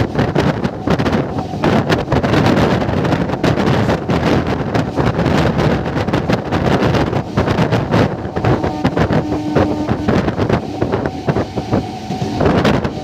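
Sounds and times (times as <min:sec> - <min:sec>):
train wheels rumbling on track: 0:00.0 - 0:13.0
wind buffeting microphone: 0:00.0 - 0:13.0.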